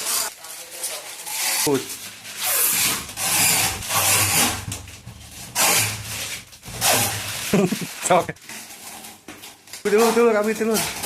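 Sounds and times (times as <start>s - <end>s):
protective wrapping tearing: 0.0s - 11.0s.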